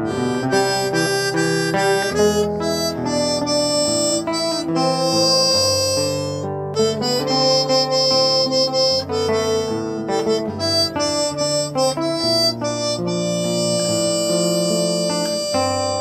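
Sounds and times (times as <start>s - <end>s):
acoustic guitar accompaniment: 0.0s - 16.0s
harmonica melody: 0.0s - 16.0s.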